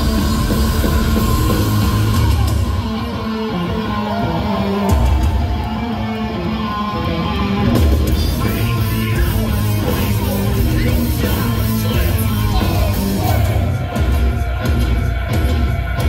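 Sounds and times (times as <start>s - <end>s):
live heavy metal band: 0.0s - 16.0s.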